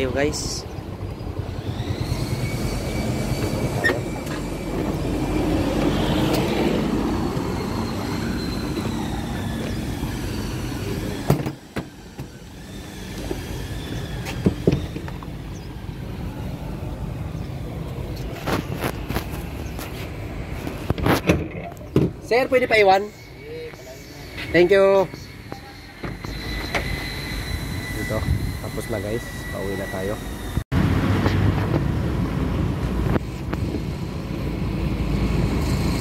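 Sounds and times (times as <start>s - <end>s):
faint sliding whines: 0.4s - 21.9s, 23.0s - 30.6s.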